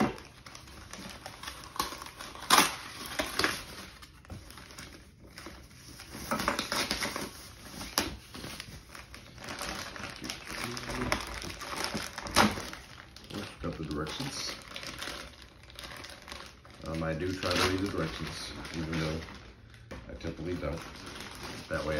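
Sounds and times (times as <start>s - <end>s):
plastic wrap crinkling: 0.0s - 21.9s.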